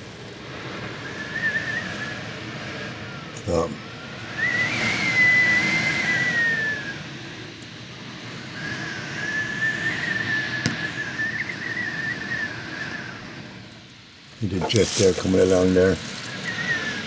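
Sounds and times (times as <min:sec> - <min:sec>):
strong wind gusting and whistling: 0:00.0 - 0:13.8, 0:14.4 - 0:17.0.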